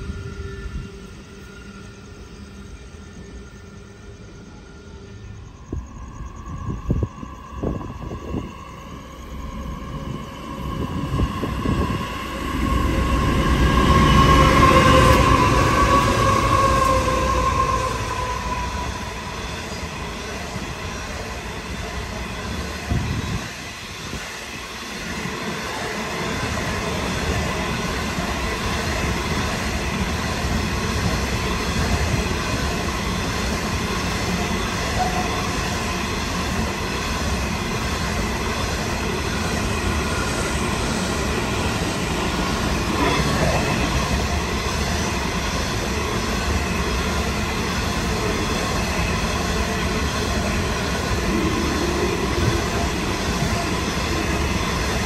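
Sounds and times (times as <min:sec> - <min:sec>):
locomotive high tone: 0:00.0 - 0:55.0.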